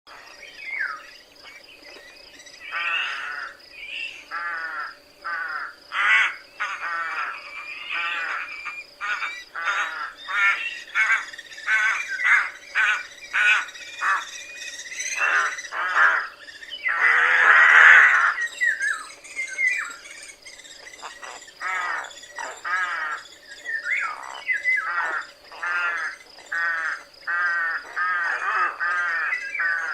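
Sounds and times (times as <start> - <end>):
rooks cawing: 2.7 - 14.4, 15.1 - 19.1, 21.0 - 29.9.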